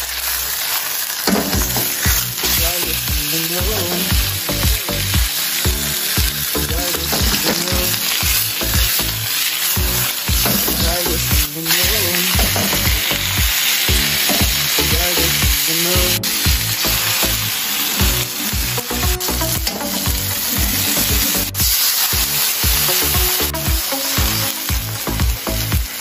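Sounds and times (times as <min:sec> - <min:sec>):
food sizzling in a hot pan: 0:00.0 - 0:26.0
background music with steady beat: 0:01.3 - 0:26.0.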